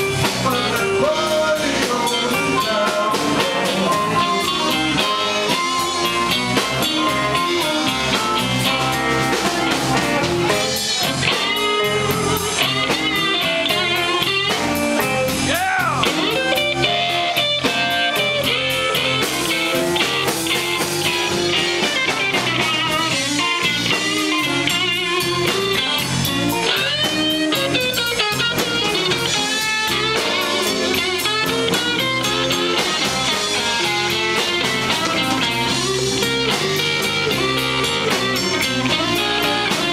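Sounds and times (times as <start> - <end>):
drum kit: 0.0 - 39.9
electric bass: 0.0 - 39.9
electric guitar lead lines: 0.0 - 39.9.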